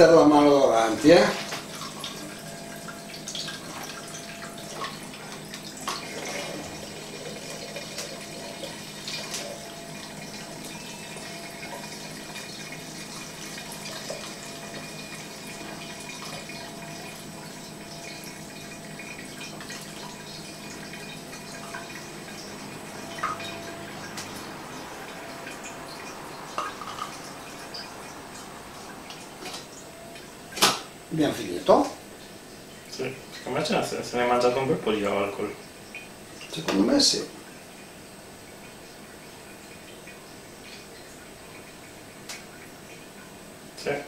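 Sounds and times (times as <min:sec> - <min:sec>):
liquid trickling through filter: 0:00.0 - 0:44.0.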